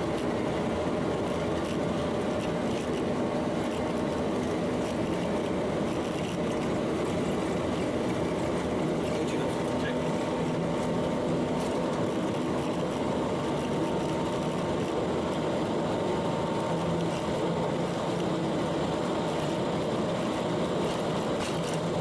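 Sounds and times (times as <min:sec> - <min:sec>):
faint constant whine: 0:00.0 - 0:22.0
jet engines and airflow hum: 0:00.0 - 0:22.0.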